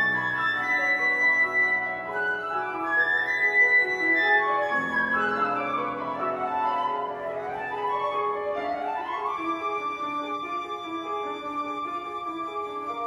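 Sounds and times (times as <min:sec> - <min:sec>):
flute notes: 0:00.0 - 0:10.5
piano chords: 0:00.0 - 0:13.0.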